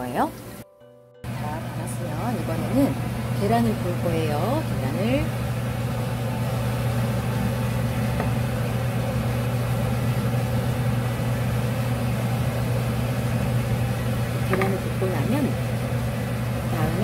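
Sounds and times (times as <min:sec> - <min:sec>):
kitchen appliance humming: 0:01.3 - 0:17.0.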